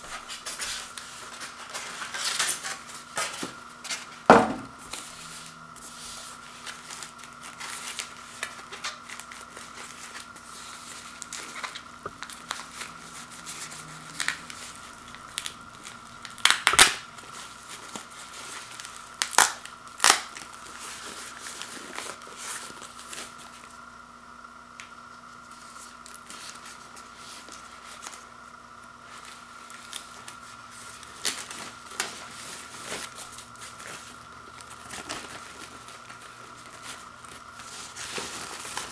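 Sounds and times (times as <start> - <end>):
plastic packing wrap crinkling: 0.0 - 23.8, 24.8 - 38.9.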